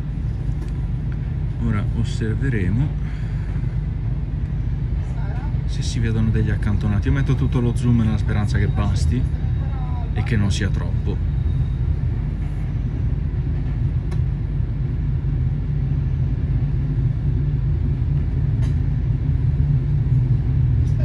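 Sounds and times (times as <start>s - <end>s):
train coach rumbling: 0.0s - 21.0s.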